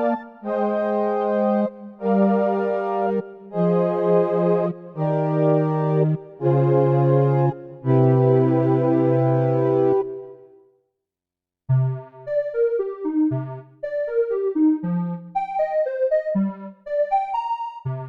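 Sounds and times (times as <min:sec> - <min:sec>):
synthesizer melody over bass: 0:00.0 - 0:10.4, 0:11.7 - 0:18.0.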